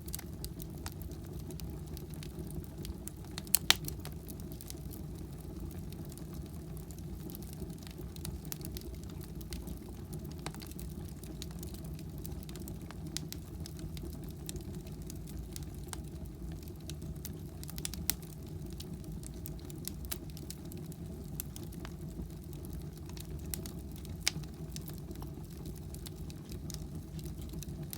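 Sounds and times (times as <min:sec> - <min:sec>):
firewood crackling and popping: 0:00.0 - 0:27.9
low fire rumble: 0:00.0 - 0:27.9.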